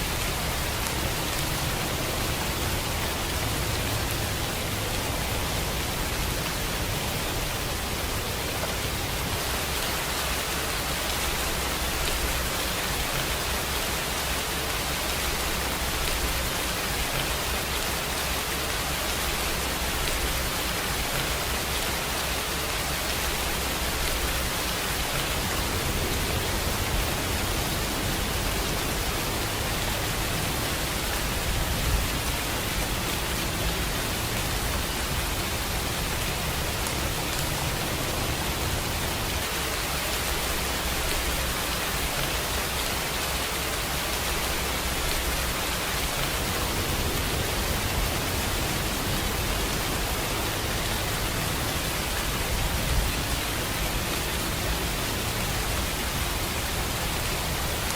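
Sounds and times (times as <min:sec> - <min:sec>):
raindrop ticks: 0:00.0 - 0:57.9
steady rainfall hiss: 0:00.0 - 0:57.9.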